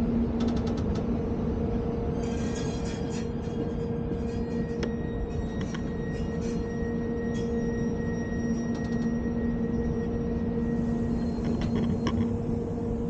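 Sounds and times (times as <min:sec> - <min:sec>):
low hum: 0:00.0 - 0:13.0
train rumbling: 0:00.0 - 0:13.0.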